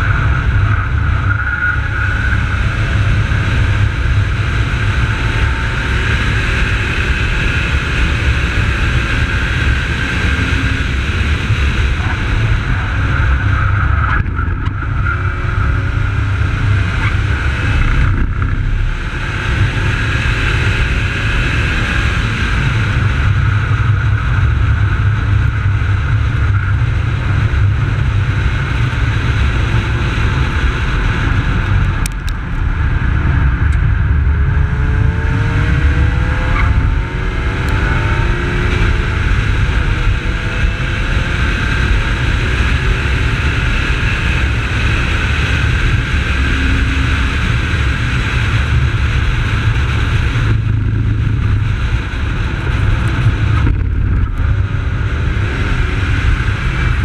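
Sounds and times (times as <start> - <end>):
car engine running hard: 0.0 - 57.0
heavy wind: 0.0 - 57.0
road rumble: 0.0 - 57.0.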